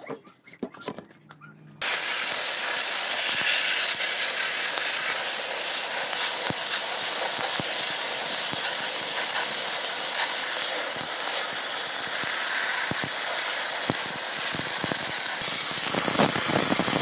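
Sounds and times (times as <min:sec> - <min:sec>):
sandblaster hissing: 0:01.8 - 0:17.0.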